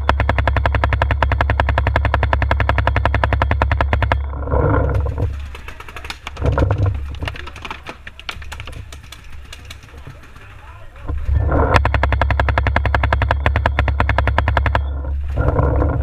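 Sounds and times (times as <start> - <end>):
paintball marker firing: 0.0 - 4.2, 5.3 - 11.0, 11.7 - 14.8.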